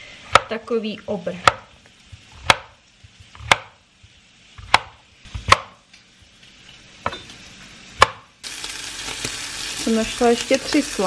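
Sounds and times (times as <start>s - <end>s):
bacon sizzling in frying pan: 0.2s - 11.0s.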